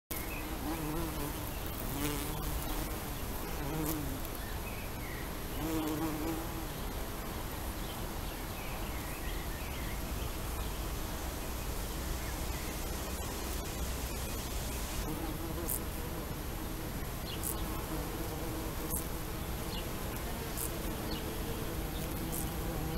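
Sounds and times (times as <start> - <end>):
bumblebees buzzing in flight: 0.1 - 4.4, 5.4 - 7.4, 10.4 - 22.9.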